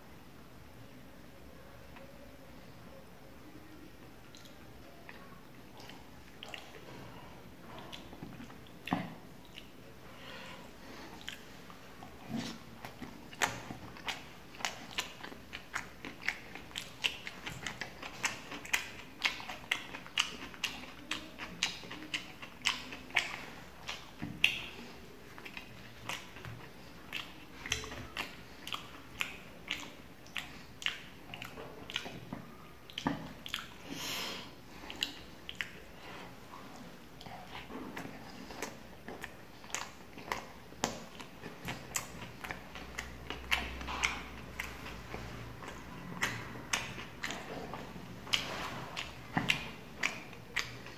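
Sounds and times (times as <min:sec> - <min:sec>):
person chewing with wet smacks: 0:03.4 - 0:50.9.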